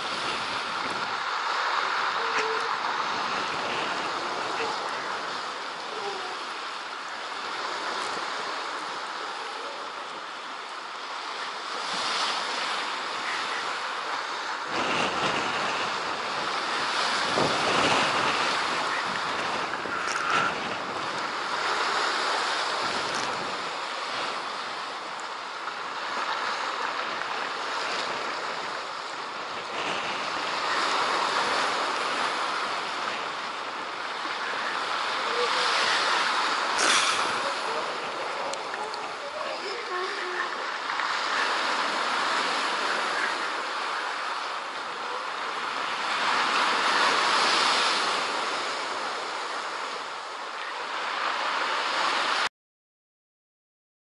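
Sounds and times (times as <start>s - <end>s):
surf breaking over rocks: 0.0s - 52.5s
wind rumbling on microphone: 0.0s - 52.5s.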